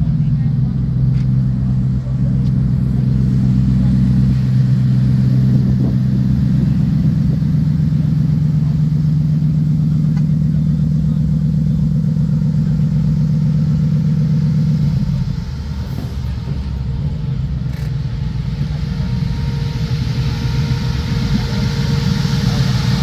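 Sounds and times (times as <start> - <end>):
car engine rumbling past: 0.0 - 23.0
car pulling up: 0.0 - 23.0.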